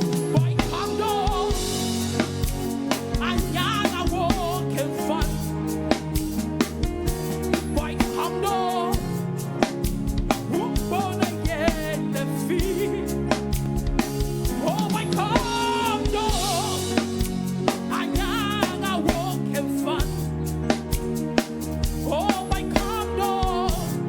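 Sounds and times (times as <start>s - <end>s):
drum kit beat: 0.0s - 24.0s
gospel worship music: 0.0s - 24.0s.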